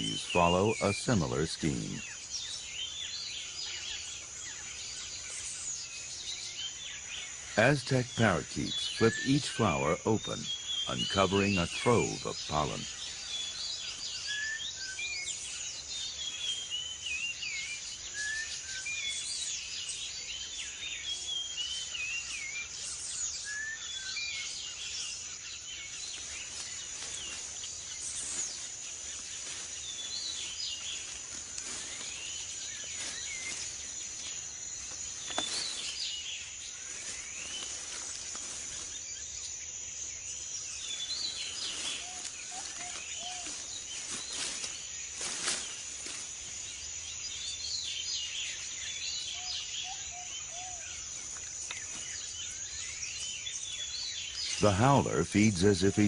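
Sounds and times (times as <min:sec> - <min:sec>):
bird chirps and calls: 0:00.0 - 0:39.0, 0:40.7 - 0:56.0
insect drone: 0:00.0 - 0:56.0.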